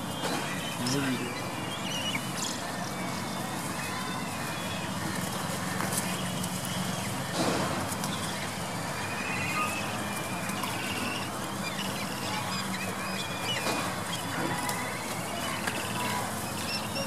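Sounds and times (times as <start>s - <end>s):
birds calling in wavering trills: 0.0s - 17.0s.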